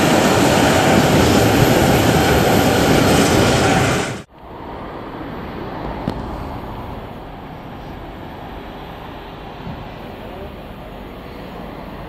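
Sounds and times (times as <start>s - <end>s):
distant diesel locomotive rumble: 0.0s - 12.0s
freight wagons rumbling on rails: 0.0s - 12.0s.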